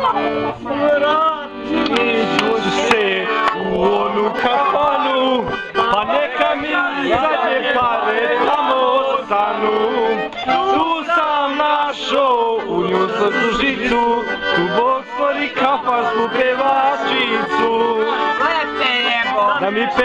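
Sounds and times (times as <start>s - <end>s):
accordion playing folk tune: 0.0s - 20.0s
man singing: 0.0s - 20.0s.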